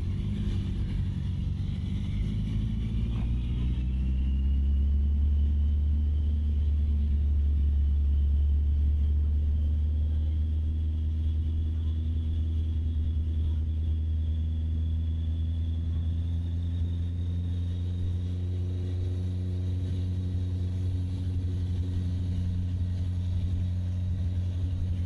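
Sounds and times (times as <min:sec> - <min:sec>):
motorcycle engine running: 0:00.0 - 0:25.0
wind rumble on microphone: 0:00.0 - 0:25.0.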